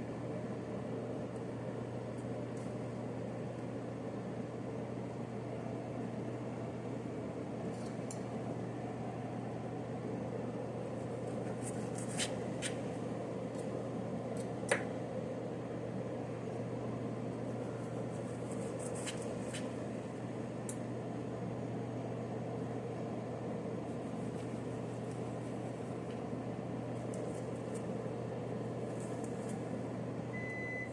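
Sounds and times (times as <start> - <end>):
exhaust fan humming: 0.0 - 30.9.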